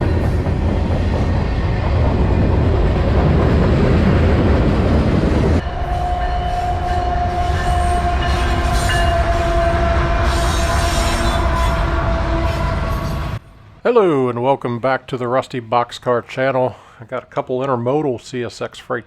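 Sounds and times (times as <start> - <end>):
freight train rumbling past: 0.0 - 15.5.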